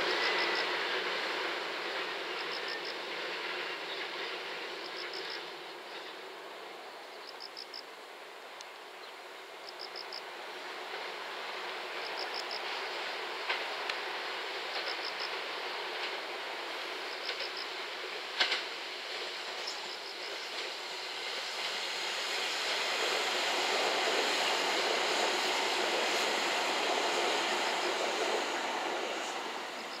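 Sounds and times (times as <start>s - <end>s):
train wheels on rail: 0.0s - 30.0s.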